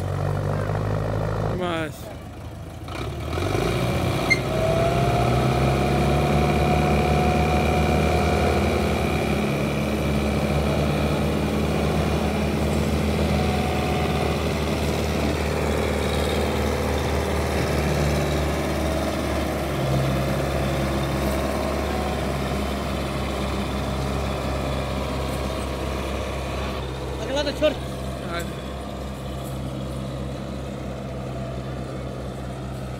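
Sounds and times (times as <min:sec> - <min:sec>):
tractor diesel engine running hard: 0:00.0 - 0:32.9.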